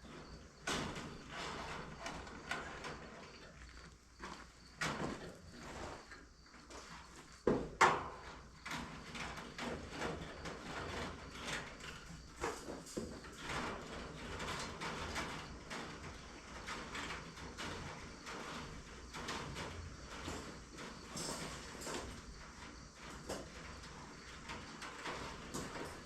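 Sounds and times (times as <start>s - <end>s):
chicken wire rattling and scraping: 0.0s - 26.0s.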